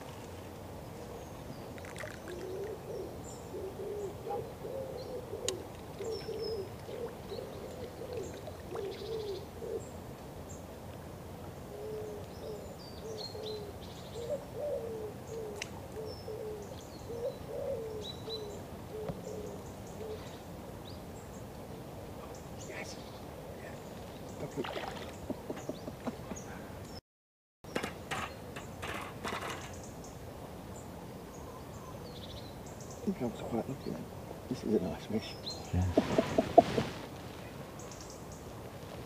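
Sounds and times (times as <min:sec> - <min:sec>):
small birds chirping faintly: 0:00.0 - 0:27.0, 0:27.7 - 0:39.0.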